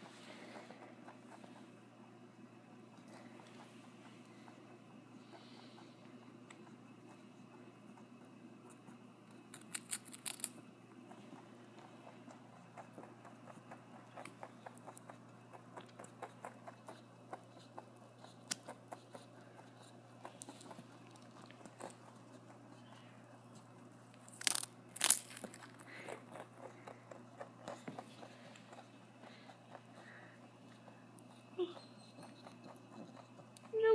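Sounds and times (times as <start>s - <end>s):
rabbit crunching a cracker: 3.0s - 31.6s, 32.2s - 33.9s.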